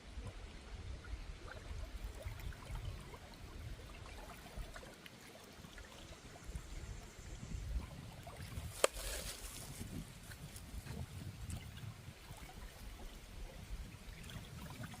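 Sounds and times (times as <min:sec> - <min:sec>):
water flowing and trickling: 0:00.0 - 0:15.0.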